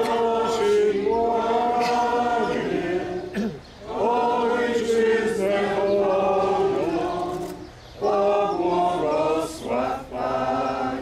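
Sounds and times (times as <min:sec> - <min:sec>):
group singing a hymn: 0:00.0 - 0:11.0.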